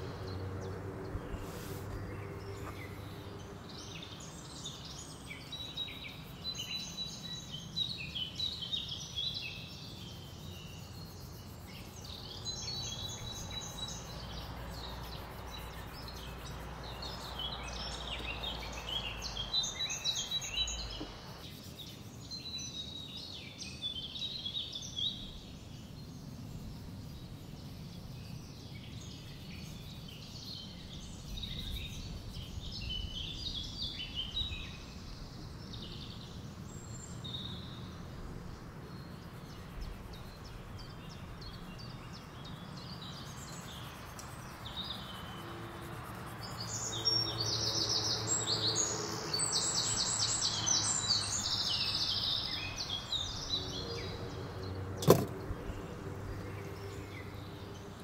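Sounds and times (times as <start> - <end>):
birds singing and chirping: 0.0 - 58.0.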